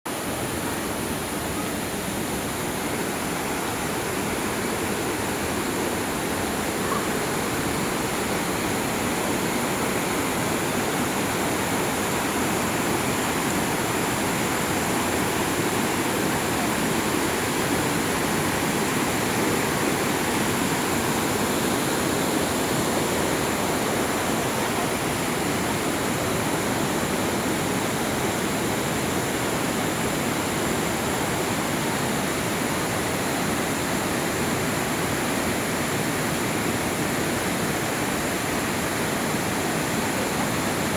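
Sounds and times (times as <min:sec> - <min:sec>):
river water rushing: 0:00.1 - 0:40.9.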